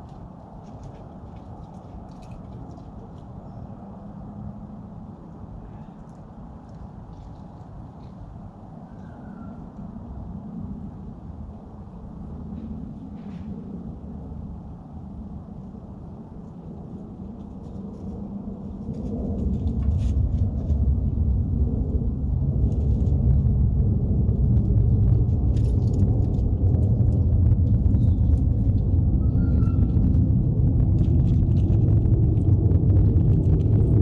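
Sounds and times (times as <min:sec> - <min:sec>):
low steady rumble: 0:00.0 - 0:34.0.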